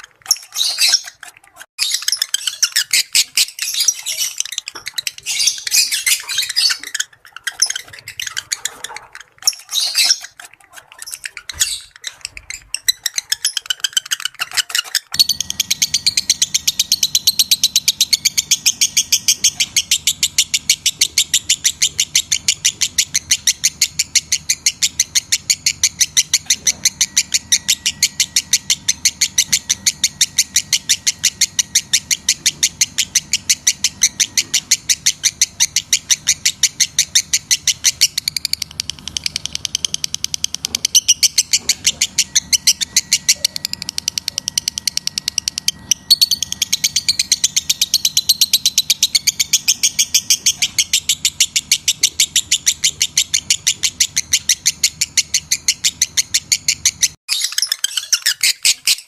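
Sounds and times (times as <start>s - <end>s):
lovebird chattering chirps: 0.0s - 59.0s.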